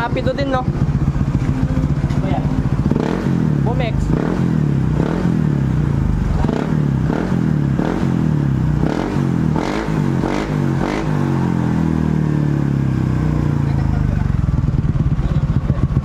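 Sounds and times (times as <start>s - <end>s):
scooter engine idling: 0.0s - 16.0s
scooter engine revving: 0.0s - 16.0s.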